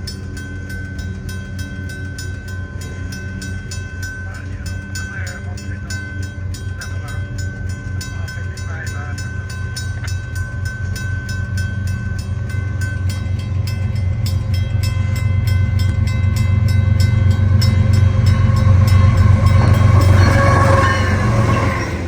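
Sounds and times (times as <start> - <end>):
freight train rumbling past: 0.0 - 22.0
rapid ringing strikes: 0.0 - 22.0.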